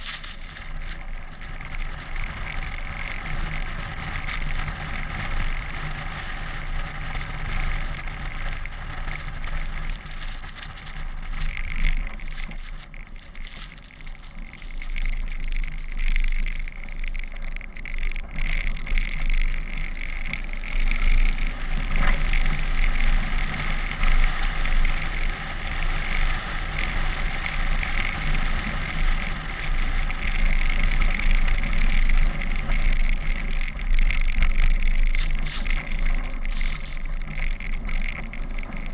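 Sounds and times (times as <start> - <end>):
engine hum: 0.0 - 38.9
tyres on snow: 0.0 - 38.9.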